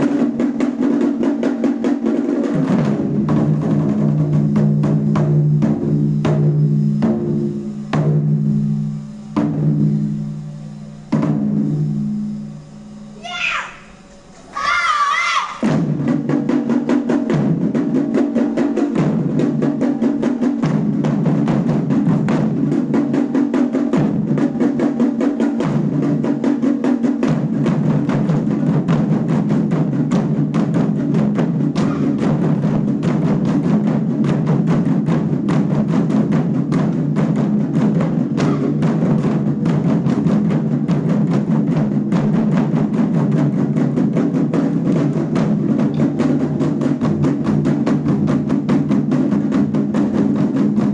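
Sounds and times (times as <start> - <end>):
drum ensemble playing: 0.0 - 50.9.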